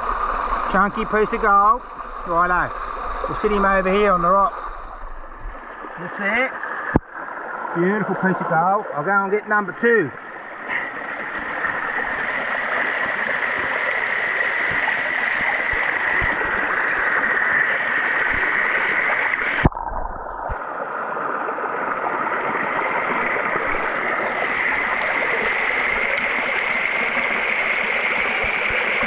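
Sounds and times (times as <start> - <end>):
waterfall rushing into creek: 0.0 - 29.0.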